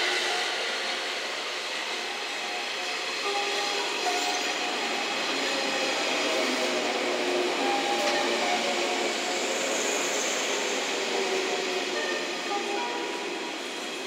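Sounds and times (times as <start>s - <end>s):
electric train running hum: 0.0s - 14.0s
faint train tones: 0.0s - 14.0s.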